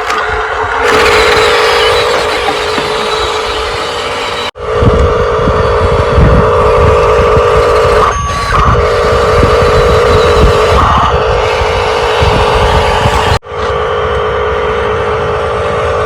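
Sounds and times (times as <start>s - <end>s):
toy electric motor whining: 0.0s - 13.4s.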